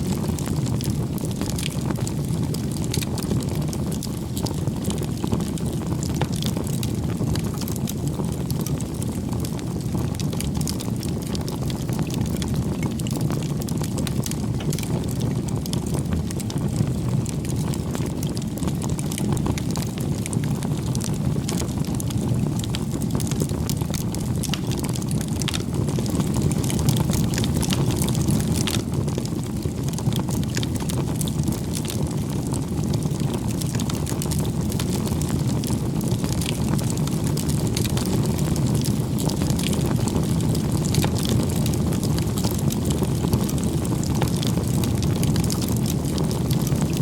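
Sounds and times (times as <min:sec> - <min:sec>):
bonfire flames rushing: 0:00.0 - 0:47.0
fire crackles and pops: 0:00.0 - 0:47.0.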